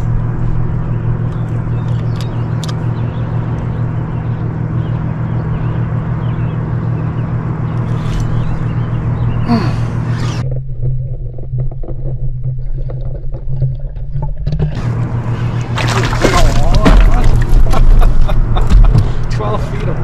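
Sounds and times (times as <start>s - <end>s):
low rumble: 0.0s - 20.0s
steady low hum: 0.0s - 20.0s.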